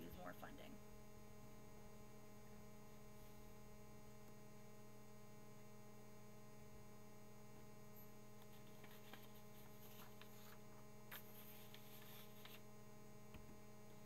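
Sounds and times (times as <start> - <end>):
low electrical mains hum: 0.0 - 14.0.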